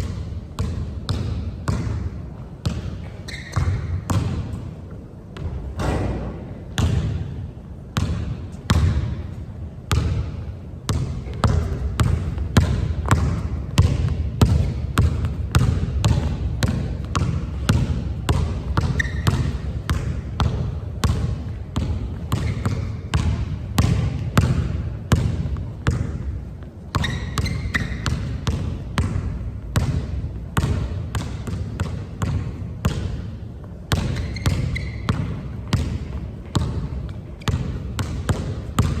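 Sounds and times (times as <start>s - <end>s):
basketball dribbling on court: 0.0s - 4.8s, 5.4s - 39.0s.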